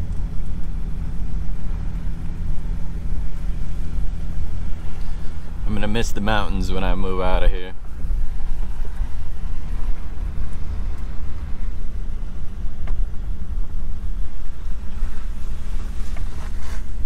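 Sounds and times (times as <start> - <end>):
engine and tyre rumble in cab: 0.0 - 17.0.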